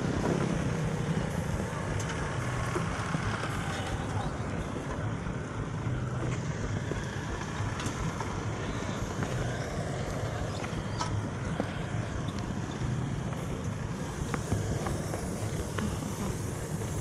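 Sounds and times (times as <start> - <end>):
steam traction engine roar: 0.0 - 17.0.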